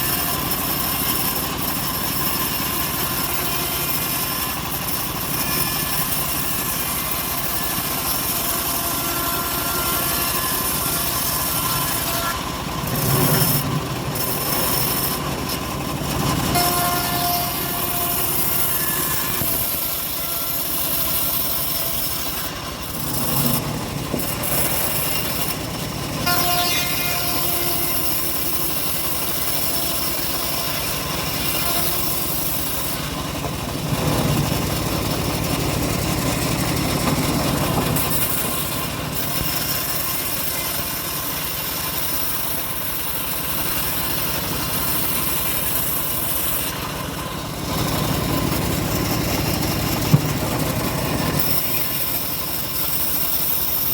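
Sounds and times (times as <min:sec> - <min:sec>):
bandsaw mill sawing log: 0:00.0 - 0:53.9.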